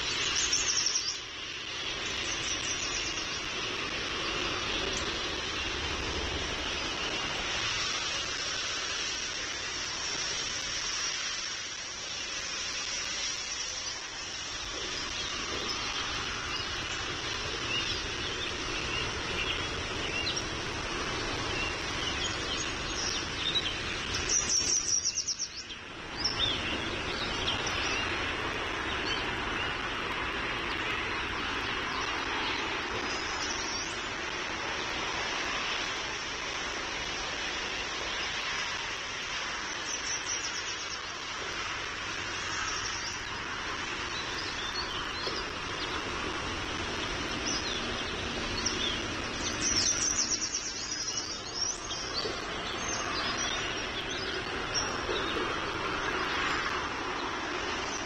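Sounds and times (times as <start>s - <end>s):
birds chirping: 0.0s - 36.3s, 37.2s - 58.0s
outdoor background hiss: 0.0s - 58.0s.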